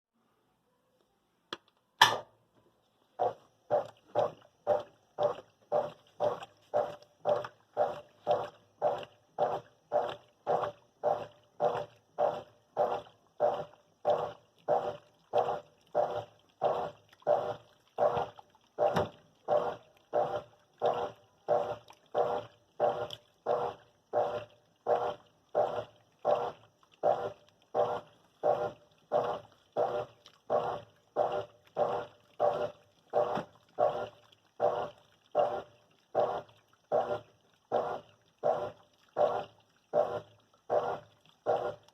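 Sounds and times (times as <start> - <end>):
washing machine agitating: 3.1 - 41.9.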